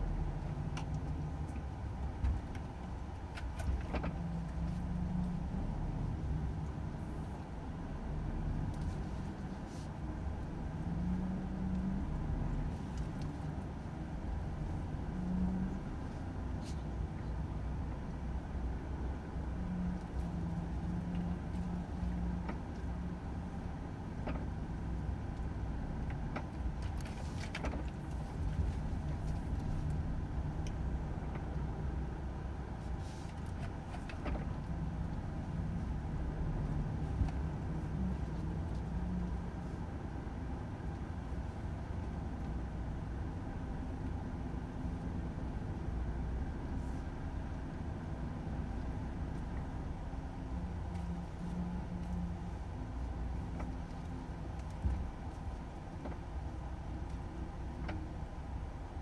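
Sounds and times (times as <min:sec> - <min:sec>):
diesel truck engine from cab: 0:00.0 - 0:59.0.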